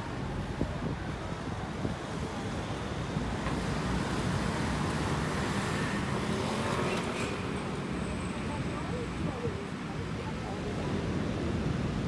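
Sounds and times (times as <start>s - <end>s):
steady outdoor rumble: 0.0s - 12.0s.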